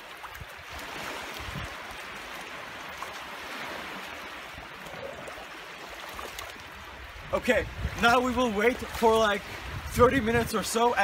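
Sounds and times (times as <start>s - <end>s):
sea water lapping over rocks: 0.0s - 11.0s.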